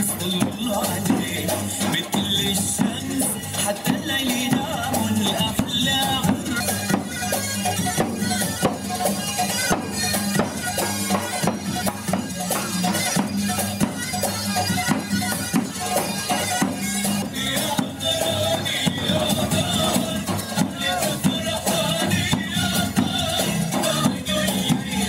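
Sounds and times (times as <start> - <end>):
large drum beaten: 0.0 - 25.0.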